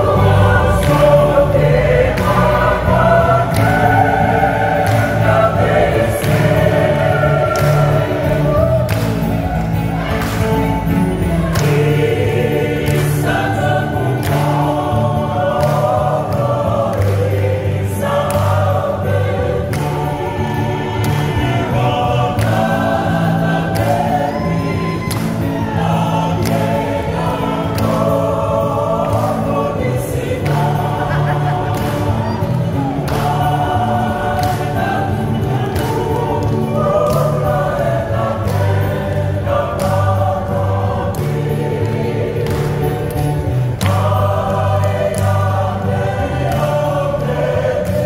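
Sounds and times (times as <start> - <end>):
women's choir singing in harmony: 0.0 - 48.0.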